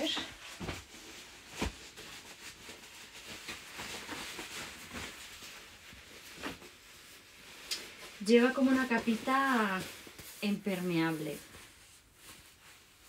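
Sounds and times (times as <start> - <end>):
cloth rustling: 0.0 - 13.0.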